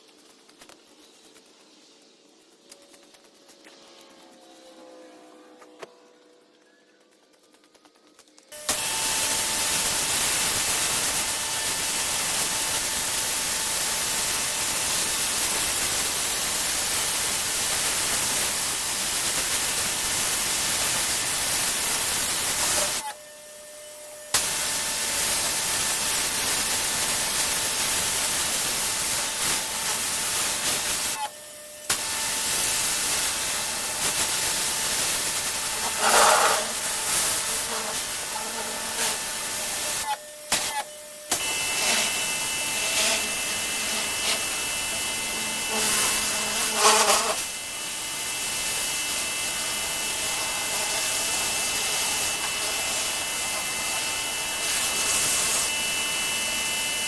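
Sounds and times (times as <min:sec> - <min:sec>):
pressure washer jet hissing: 0:08.6 - 0:23.1, 0:24.3 - 0:57.0.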